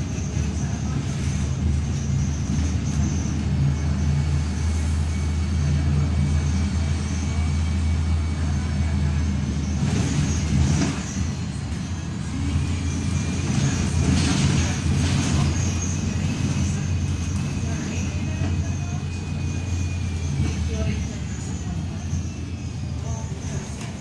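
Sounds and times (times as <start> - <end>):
bus engine and road drone: 0.0 - 24.0.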